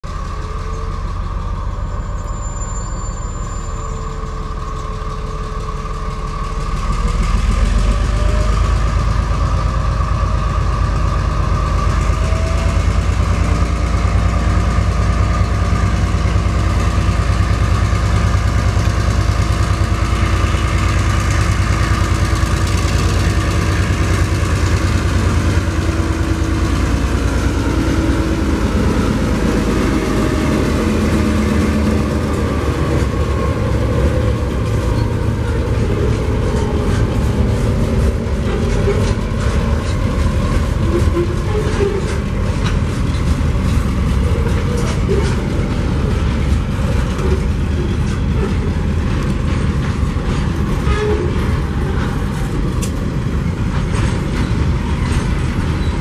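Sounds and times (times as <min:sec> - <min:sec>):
diesel locomotive engine throbbing: 0:00.0 - 0:56.0.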